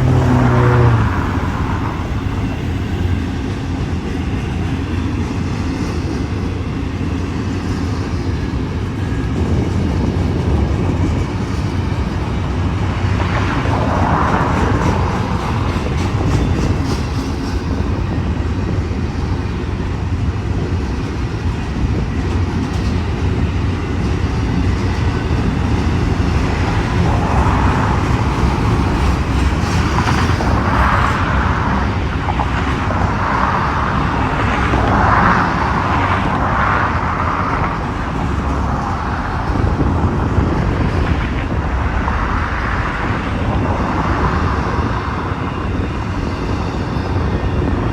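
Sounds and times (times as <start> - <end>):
freight train wheels rumbling on rail: 0.0 - 47.9.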